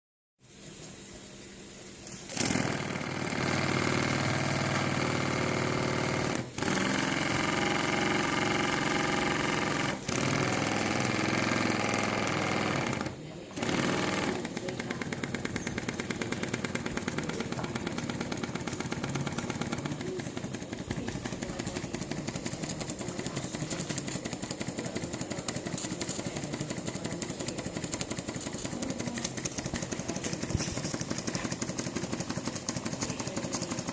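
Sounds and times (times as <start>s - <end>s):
model steam engine running: 2.0s - 33.9s.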